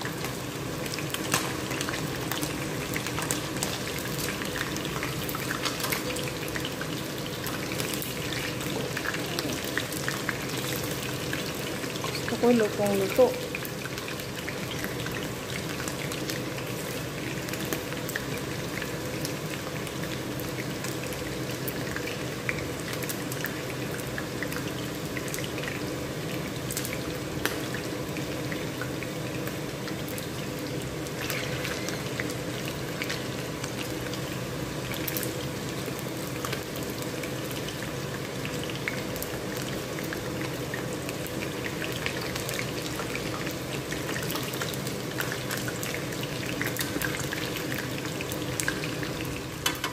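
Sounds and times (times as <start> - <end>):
chicken frying in hot oil: 0.0 - 49.9
oil popping and crackling: 0.0 - 49.9.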